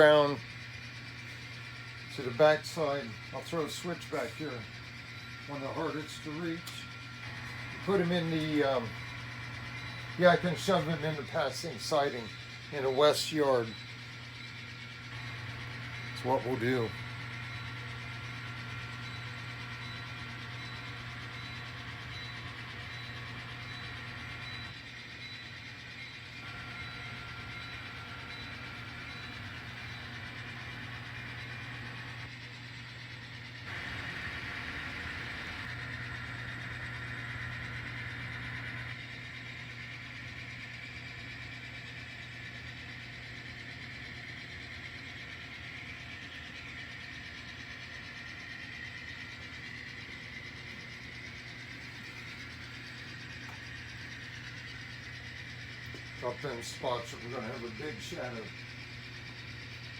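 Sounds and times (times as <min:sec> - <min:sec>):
model locomotive humming: 0:00.0 - 0:59.9.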